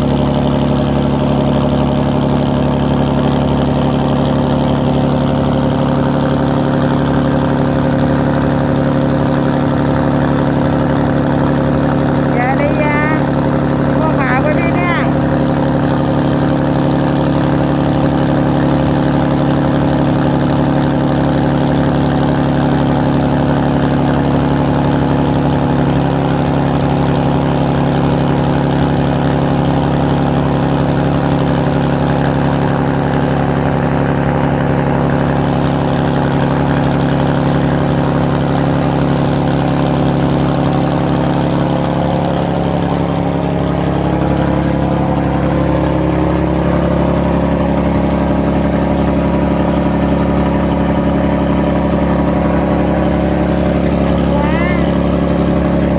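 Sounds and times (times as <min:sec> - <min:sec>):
faint second engine: 0:00.0 - 0:55.9
ferry engine droning: 0:00.0 - 0:55.9.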